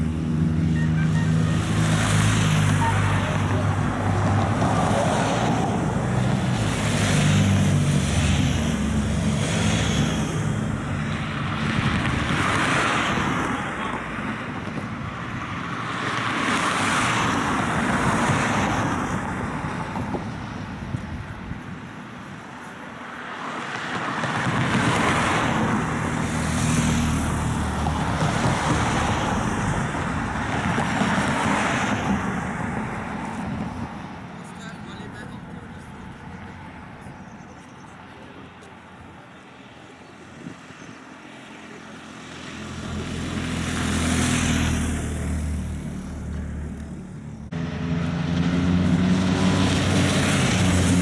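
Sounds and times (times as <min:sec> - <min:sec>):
cars and motorcycles passing: 0:00.0 - 0:51.0.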